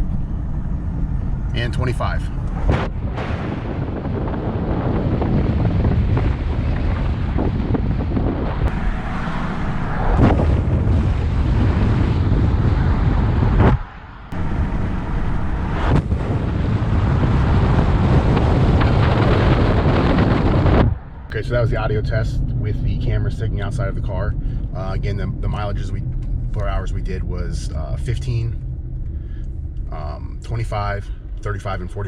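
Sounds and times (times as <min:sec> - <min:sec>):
wind buffeting microphone: 0:00.0 - 0:30.2
car road rumble: 0:00.0 - 0:32.0.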